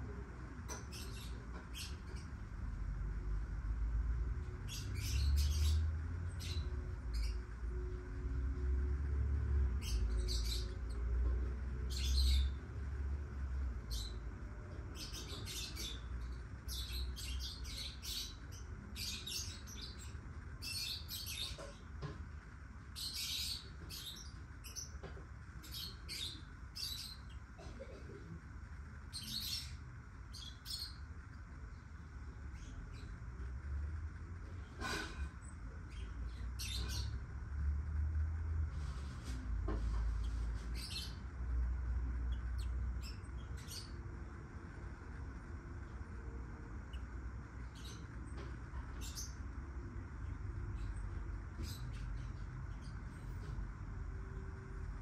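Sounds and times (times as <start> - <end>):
birds chirping: 0.0 - 55.0
low steady hum: 0.0 - 55.0.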